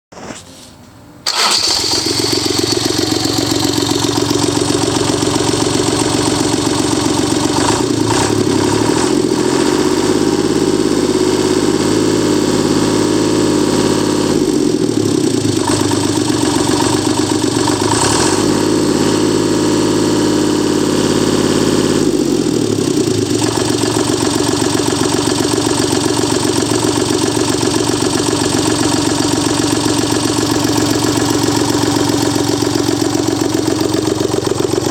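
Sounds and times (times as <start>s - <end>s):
diesel engine running: 1.2s - 34.9s.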